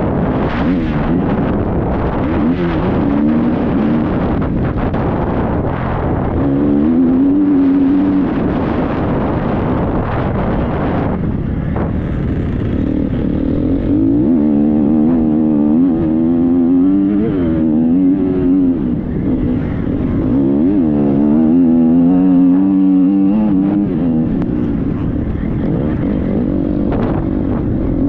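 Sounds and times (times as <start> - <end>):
ground noise: 0.0 - 28.0
motorcycle engine running: 0.0 - 28.0
rush of wind: 0.0 - 28.0.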